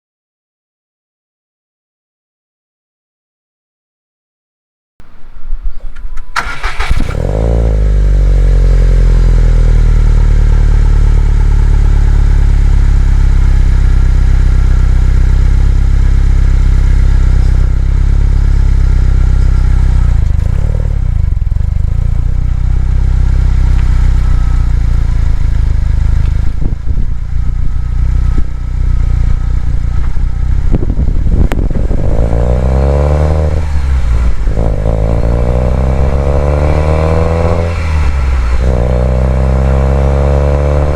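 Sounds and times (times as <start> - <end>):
car engine idling and revving: 6.0 - 40.9.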